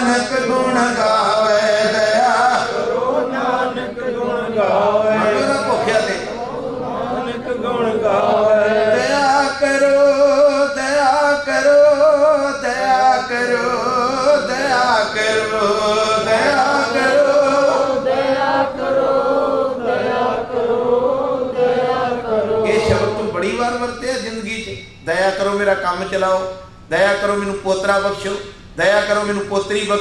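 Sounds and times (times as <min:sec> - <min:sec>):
man singing devotional hymn: 0:00.0 - 0:24.4.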